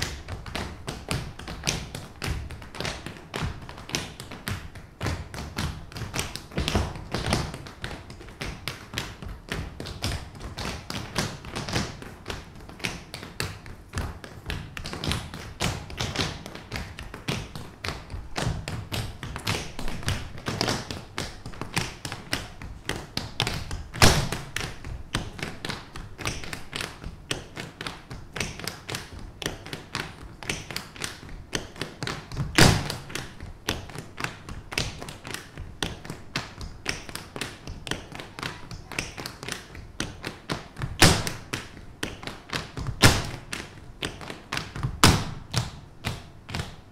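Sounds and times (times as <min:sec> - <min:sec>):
heavy foot stamps: 0:00.0 - 0:46.9
tap shoes on stage floor: 0:00.0 - 0:46.9.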